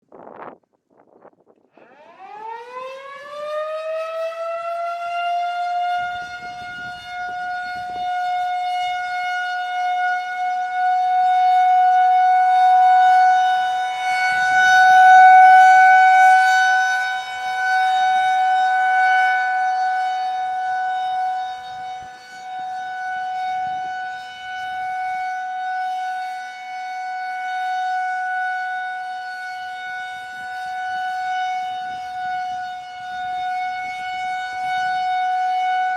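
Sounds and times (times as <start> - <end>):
rotating warning siren: 1.6 - 35.9.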